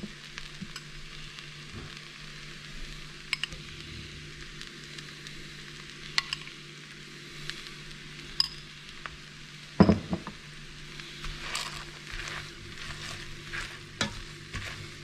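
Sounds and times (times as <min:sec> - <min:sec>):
beans sizzling in a pan: 0:00.0 - 0:15.0.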